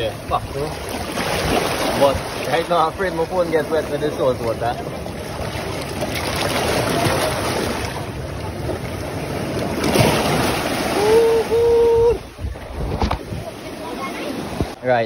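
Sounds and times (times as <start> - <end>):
seawater washing over rocks: 0.0 - 14.8.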